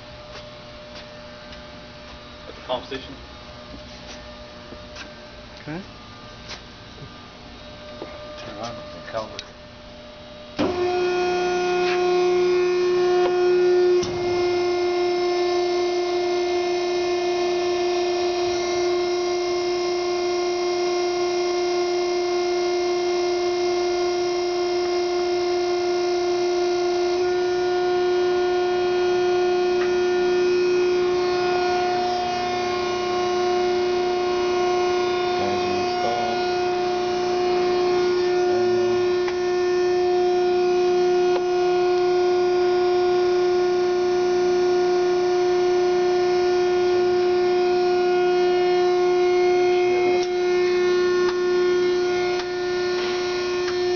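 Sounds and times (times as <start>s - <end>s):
hydraulic pump whining: 6.4s - 53.9s.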